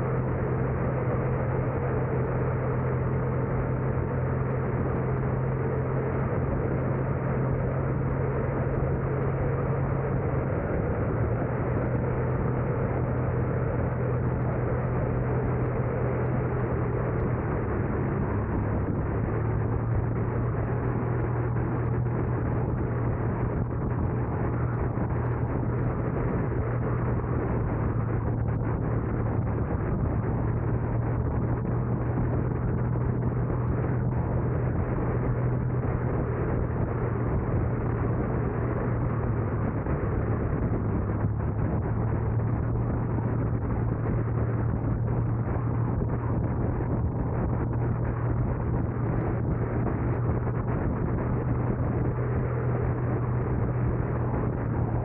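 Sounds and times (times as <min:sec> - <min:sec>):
car road and engine noise: 0:00.0 - 0:55.0
constant low hum: 0:00.0 - 0:55.0.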